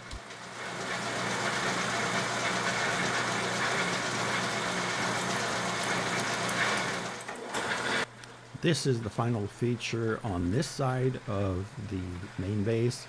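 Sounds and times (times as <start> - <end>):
lathe motor hum: 0.0 - 8.1, 10.0 - 13.0.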